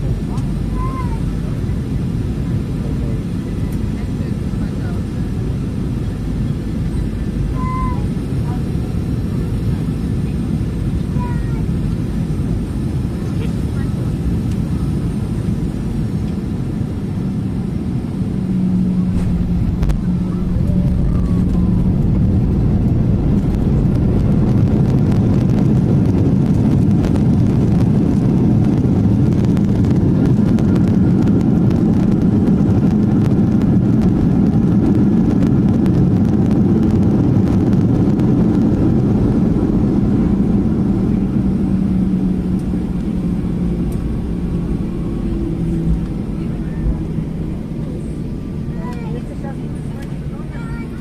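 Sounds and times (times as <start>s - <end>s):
jet engine and airflow in cabin: 0.0s - 51.0s.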